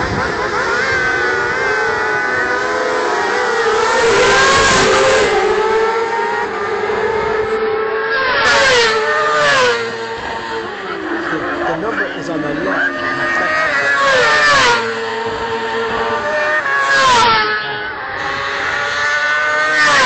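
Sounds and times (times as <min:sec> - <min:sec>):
racing motorcycles passing: 0:00.0 - 0:20.0.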